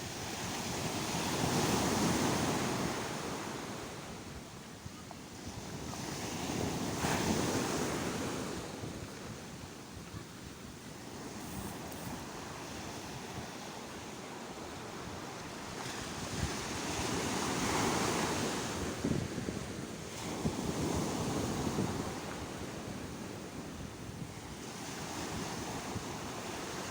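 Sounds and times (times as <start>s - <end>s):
wind rumble on microphone: 0.0s - 26.9s.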